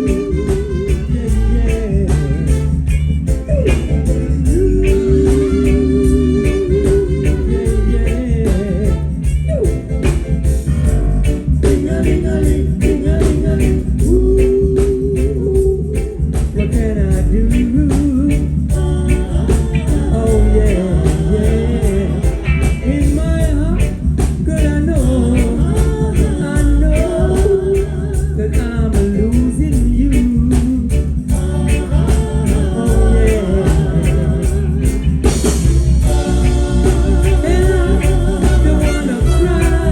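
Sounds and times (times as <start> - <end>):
live reggae band playing: 0.0 - 39.9.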